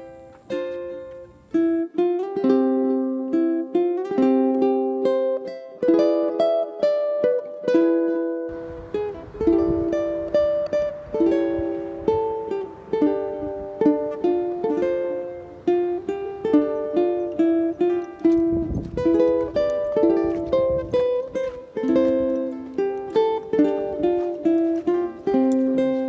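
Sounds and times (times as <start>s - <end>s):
ukulele playing: 0.0s - 26.0s.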